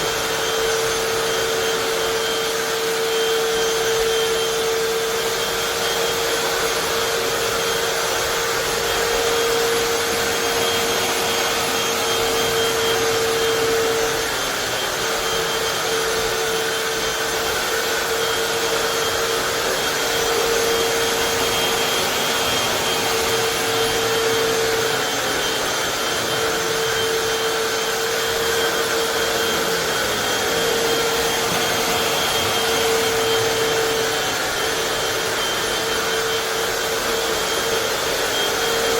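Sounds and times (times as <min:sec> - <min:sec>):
floor cleaner motor hum: 0:00.0 - 0:38.9
suction noise: 0:00.0 - 0:38.9.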